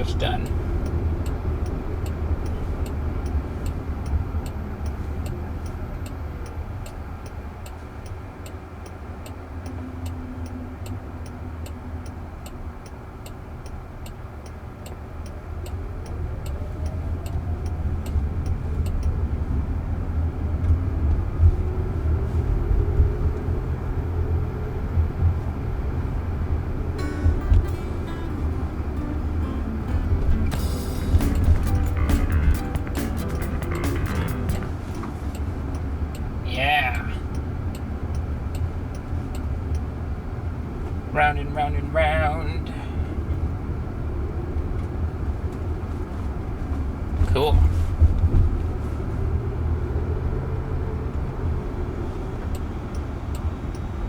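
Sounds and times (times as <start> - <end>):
road and tyre rumble: 0.0 - 54.0
turn signal ticking: 0.0 - 54.0.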